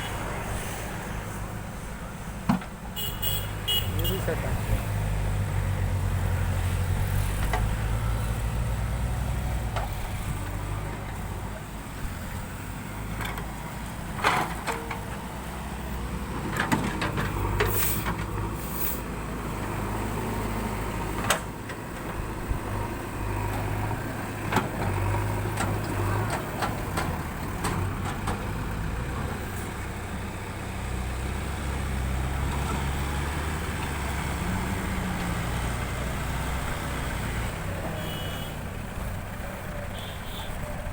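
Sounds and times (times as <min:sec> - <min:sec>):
diesel engine revving: 0:03.5 - 0:40.9.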